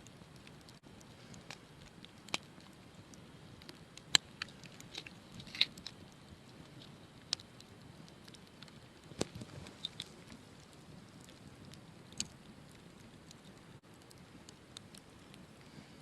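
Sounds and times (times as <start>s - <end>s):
campfire crackling and popping: 0.0s - 16.0s
low steady hiss: 0.0s - 16.0s.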